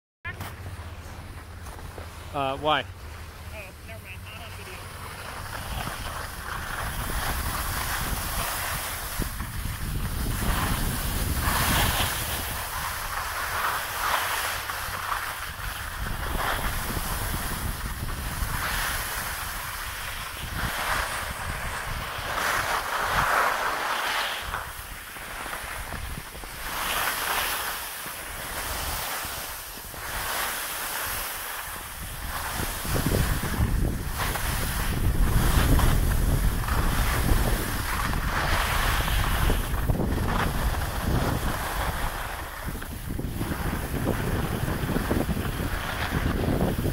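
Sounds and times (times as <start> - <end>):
skis scraping on packed snow: 0.3 - 46.9
wind buffeting microphone: 0.6 - 23.8, 24.4 - 46.9.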